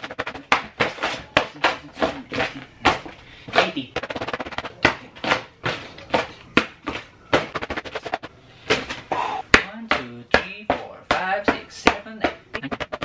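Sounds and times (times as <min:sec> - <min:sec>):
hand slapping paper: 0:00.0 - 0:09.0, 0:11.1 - 0:13.0.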